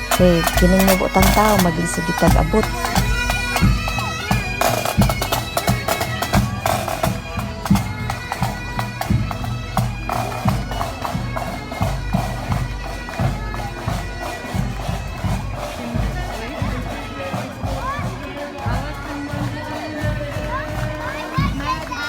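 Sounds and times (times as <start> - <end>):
bagpipes playing: 0.0 - 22.0
drums beating: 0.0 - 22.0.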